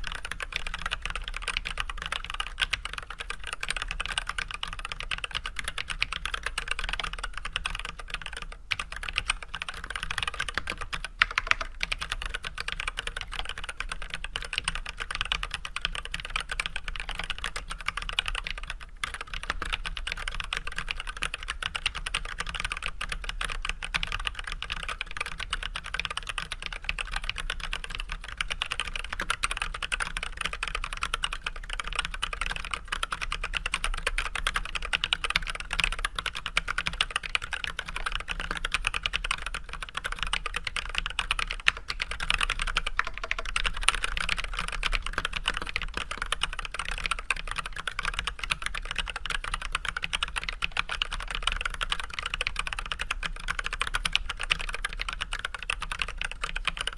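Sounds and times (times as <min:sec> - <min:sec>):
fast typing on mechanical keyboard: 0:00.0 - 0:56.9.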